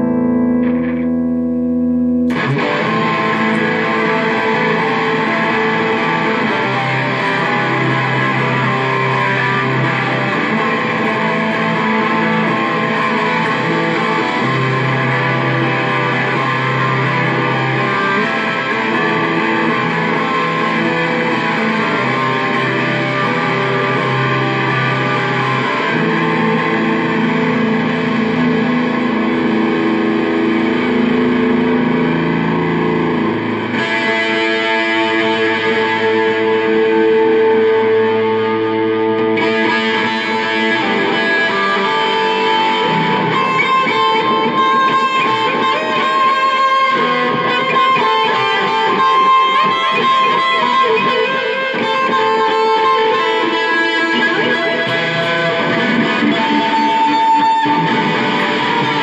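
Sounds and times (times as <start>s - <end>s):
electric bass guitar: 0.0s - 59.0s.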